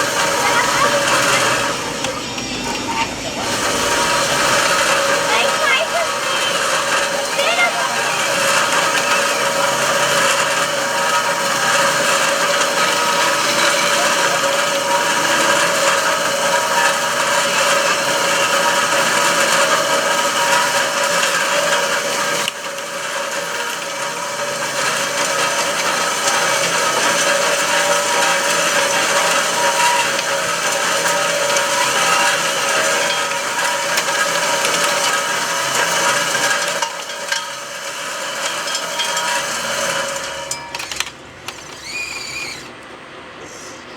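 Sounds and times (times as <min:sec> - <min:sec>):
electric motors and gearboxes whining: 0:00.0 - 0:43.9.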